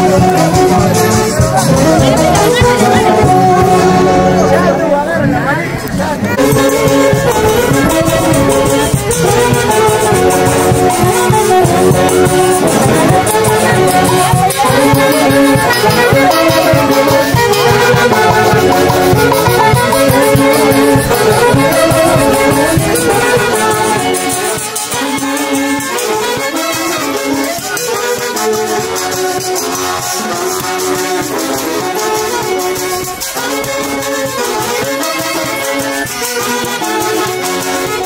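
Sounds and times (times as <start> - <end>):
festive dance music: 0.0 - 38.0.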